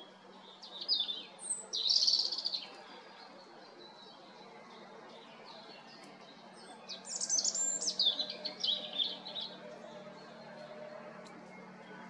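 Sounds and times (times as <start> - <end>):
robin singing: 0.0 - 11.8.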